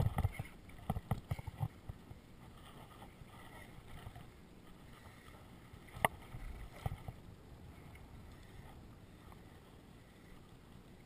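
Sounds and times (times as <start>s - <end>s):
wind and water noise: 0.0s - 11.0s.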